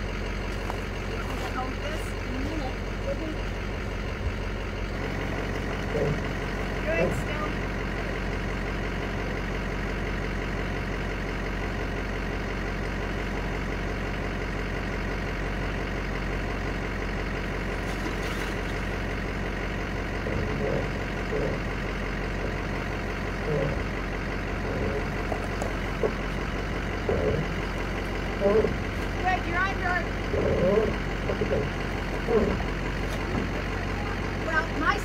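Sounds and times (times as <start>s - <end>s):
pickup truck engine idling: 0.0s - 35.0s.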